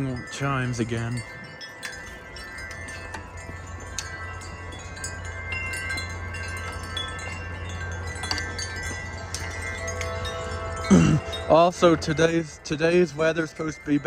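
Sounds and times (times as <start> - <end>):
low wind rumble: 0.0 - 14.0
wind chimes ringing: 0.0 - 14.0.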